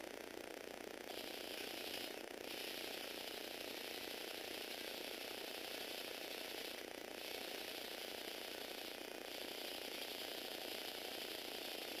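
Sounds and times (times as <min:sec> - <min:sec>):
small electric motor whirring: 0:00.0 - 0:12.0.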